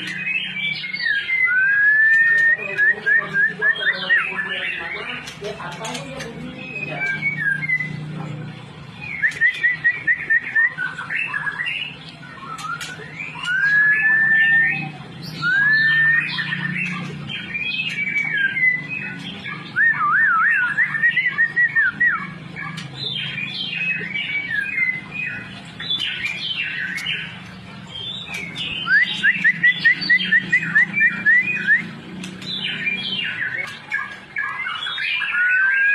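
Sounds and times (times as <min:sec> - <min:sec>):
bird singing whistles and trills: 0:00.0 - 0:08.3, 0:08.9 - 0:35.9.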